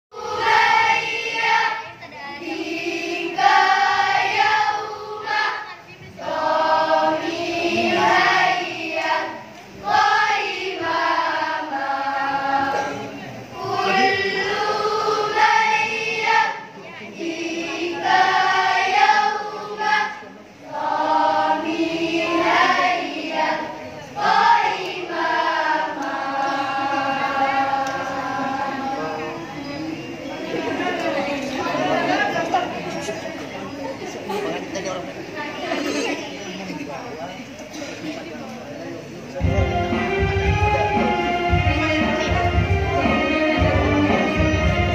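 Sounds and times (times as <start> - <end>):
children's choir singing: 0.1 - 37.0, 39.3 - 44.9.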